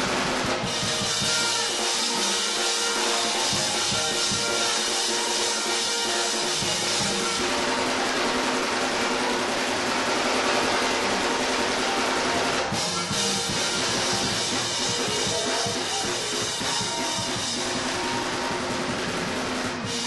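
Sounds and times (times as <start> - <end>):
band playing: 0.0 - 20.0
drum kit: 0.0 - 20.0
guitar: 0.0 - 20.0.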